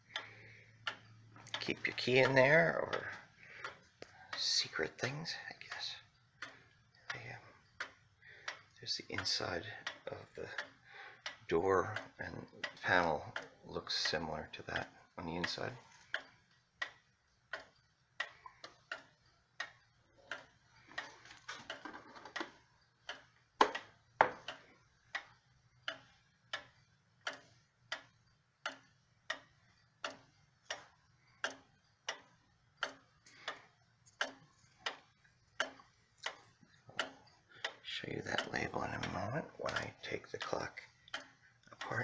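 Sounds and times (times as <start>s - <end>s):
clock ticking: 0.0s - 42.0s.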